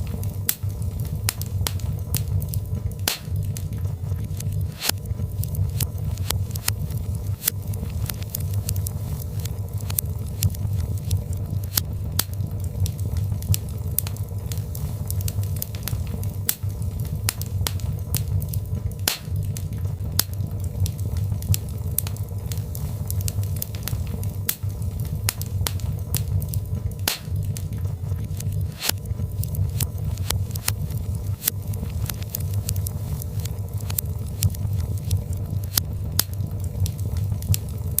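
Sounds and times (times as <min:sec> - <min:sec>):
fire rumbling: 0:00.0 - 0:38.0
logs crackling and popping: 0:00.0 - 0:38.0.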